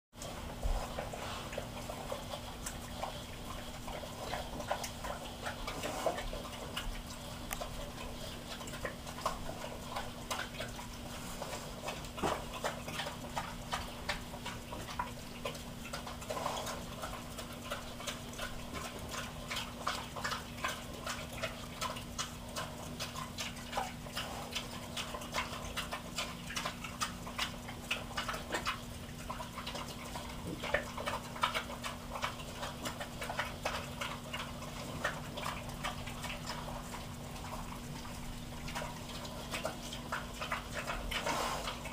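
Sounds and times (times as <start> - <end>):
pigs chewing and smacking: 0.2 - 41.9.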